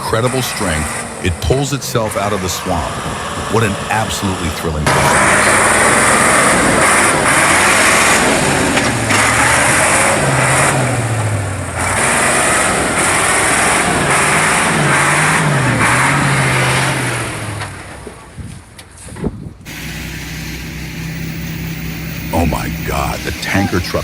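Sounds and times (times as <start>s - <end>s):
truck engine revving: 0.0s - 18.2s, 19.7s - 24.0s.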